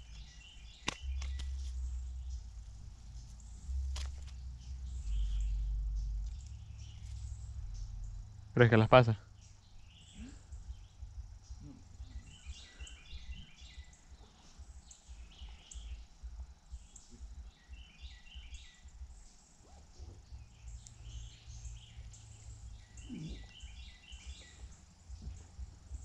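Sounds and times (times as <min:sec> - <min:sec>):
low uneven rumble: 0:00.0 - 0:26.0
songbird phrase: 0:00.0 - 0:26.0.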